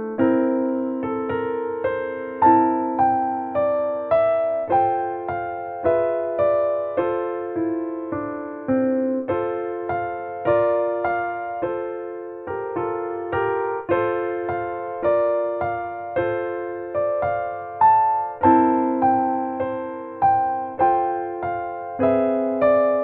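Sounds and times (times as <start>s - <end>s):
gentle electric piano music: 0.0s - 23.0s.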